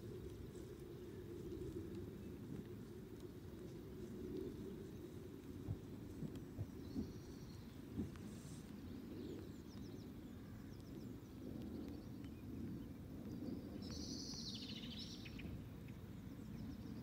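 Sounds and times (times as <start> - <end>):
low outdoor rumble: 0.0 - 17.0
songbirds chirping: 0.0 - 17.0.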